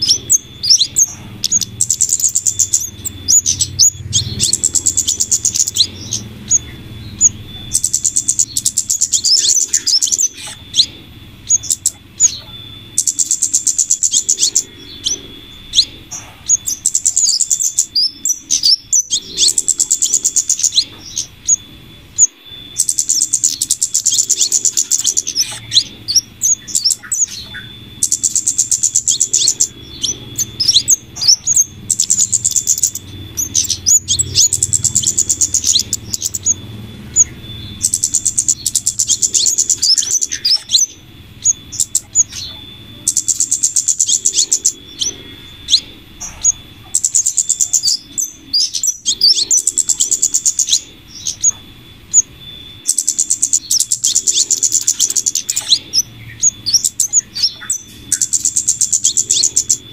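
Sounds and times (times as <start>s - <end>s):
high-pitched ticking bird chatter: 0.0s - 59.9s
sharp bird chirps: 0.0s - 59.9s.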